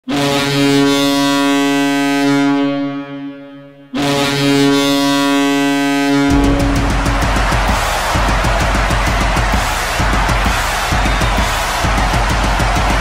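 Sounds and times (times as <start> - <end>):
goal horn blasts: 0.0 - 12.1.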